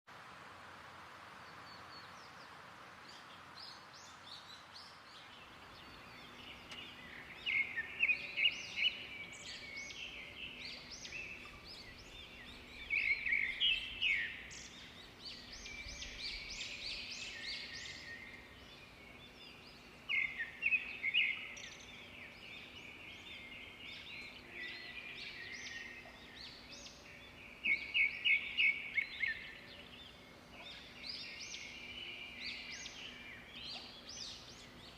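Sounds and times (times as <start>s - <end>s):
faint steady hiss: 0.1s - 34.9s
birds calling: 1.5s - 34.9s.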